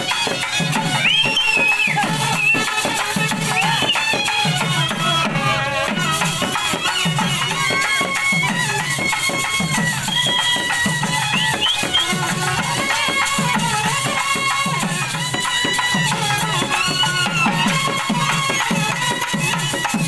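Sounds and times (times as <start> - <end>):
drum beating steady rhythm: 0.0 - 20.0
high wavering melody: 2.0 - 19.2.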